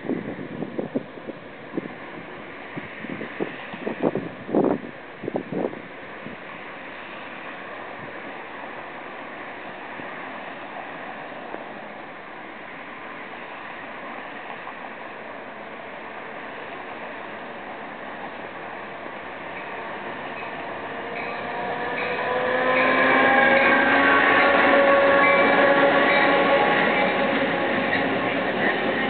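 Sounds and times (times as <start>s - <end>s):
freight train cars rolling past: 0.0s - 29.0s.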